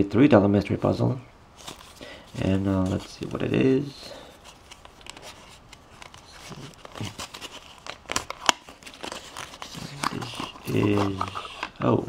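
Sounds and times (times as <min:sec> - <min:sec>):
cardboard and wrapping rustling: 0:01.6 - 0:12.0.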